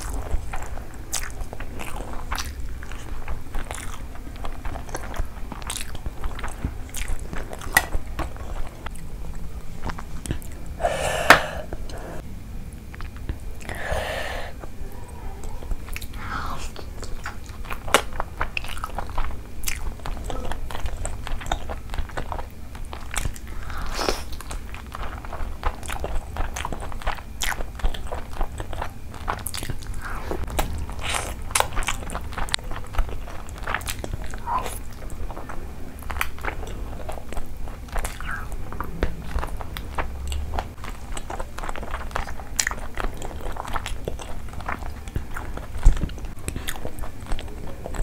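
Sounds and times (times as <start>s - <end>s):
person chewing food: 0.0s - 48.0s.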